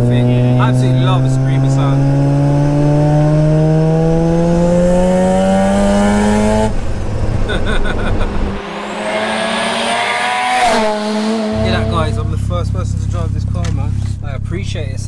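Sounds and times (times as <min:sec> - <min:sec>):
rotary engine accelerating hard: 0:00.0 - 0:15.0.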